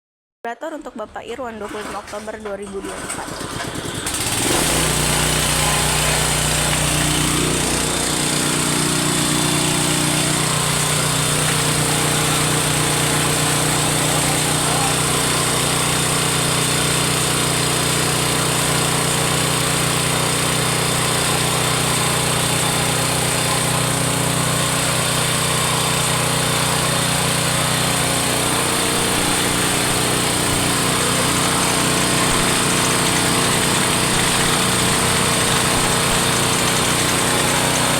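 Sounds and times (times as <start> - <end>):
concrete vibrator petrol engine: 0.8 - 37.9.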